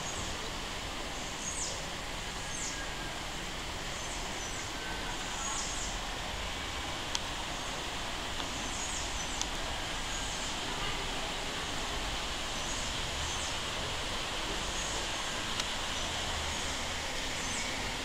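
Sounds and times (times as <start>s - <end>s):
rushing background hiss: 0.0s - 18.0s.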